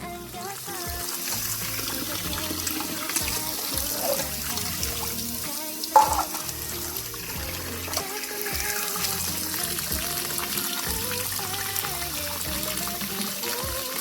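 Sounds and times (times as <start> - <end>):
background music: 0.0 - 14.0
steady watery hiss: 0.0 - 14.0.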